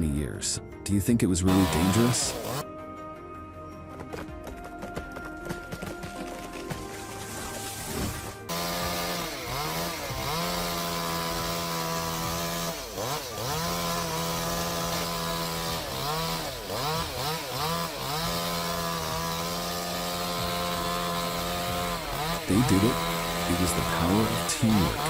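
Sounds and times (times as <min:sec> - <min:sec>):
chainsaw cutting wood: 0:01.5 - 0:02.6, 0:05.7 - 0:25.0.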